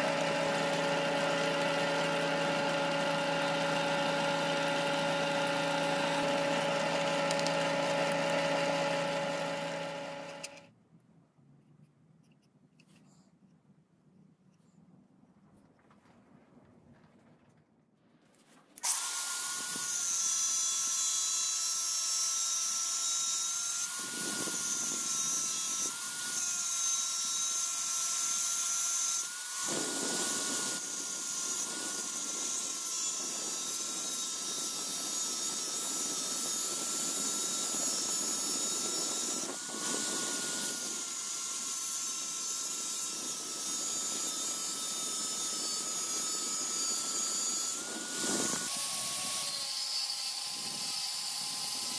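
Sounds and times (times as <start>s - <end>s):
angle grinder grinding metal: 0.0s - 10.7s, 18.8s - 51.9s.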